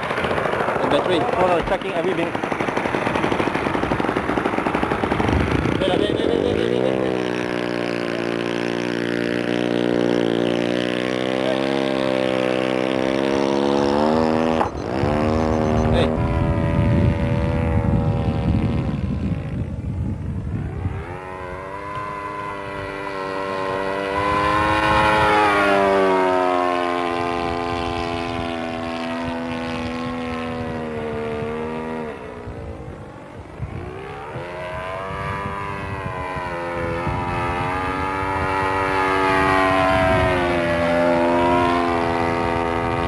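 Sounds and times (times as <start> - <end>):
model airplane engine running: 0.0 - 43.0.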